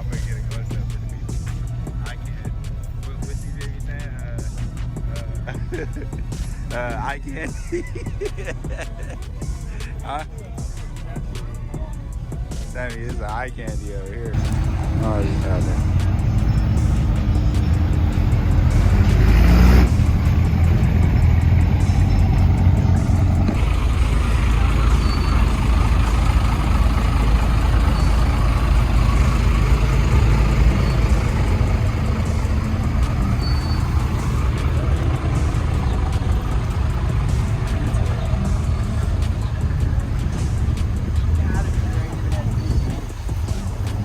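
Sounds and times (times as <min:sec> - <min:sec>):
car engine rumbling and revving: 0:00.0 - 0:44.0.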